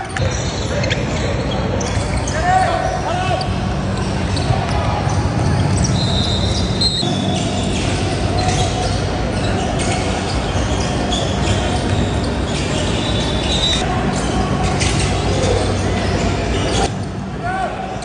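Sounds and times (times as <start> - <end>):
sneakers squeaking on hardwood: 0.0 - 17.3
gym hall din: 0.0 - 18.0.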